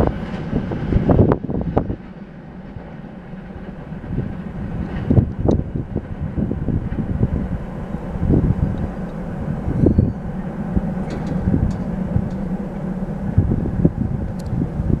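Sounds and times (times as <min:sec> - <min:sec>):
freight train rumble: 0:00.0 - 0:15.0
wind buffeting the microphone: 0:00.0 - 0:15.0.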